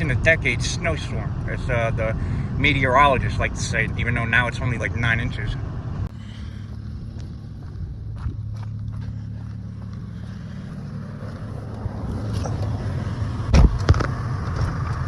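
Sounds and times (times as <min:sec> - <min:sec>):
car engine and road noise hum: 0:00.0 - 0:15.0.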